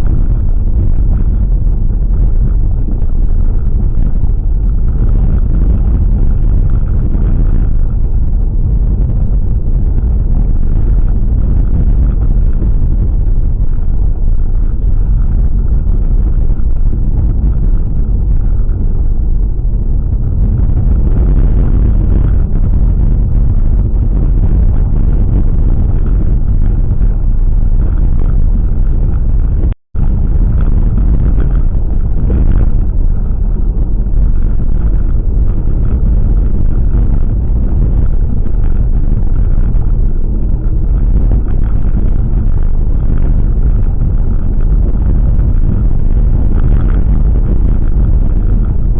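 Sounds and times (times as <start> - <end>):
car road noise: 0.0 - 48.9.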